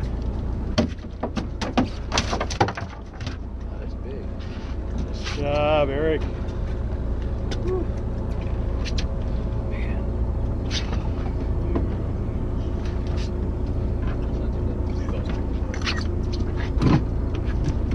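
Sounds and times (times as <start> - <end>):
boat engine low rumble: 0.0 - 17.9.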